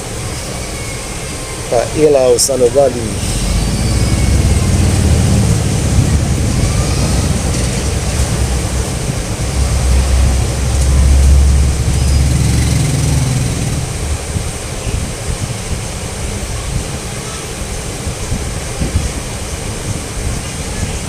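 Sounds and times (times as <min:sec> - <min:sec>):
fountain water rushing and splashing: 0:00.0 - 0:21.0
low rumble: 0:03.0 - 0:21.0.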